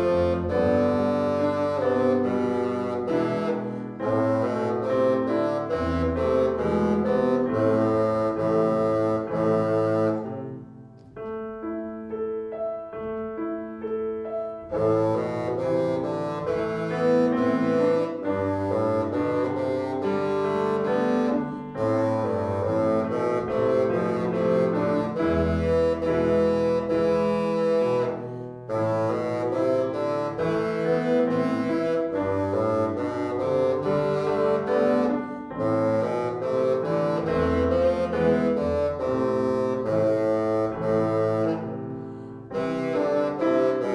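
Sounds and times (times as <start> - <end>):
bassoon playing a melody: 0.0 - 11.0, 14.5 - 43.9
grand piano accompaniment: 0.0 - 43.9.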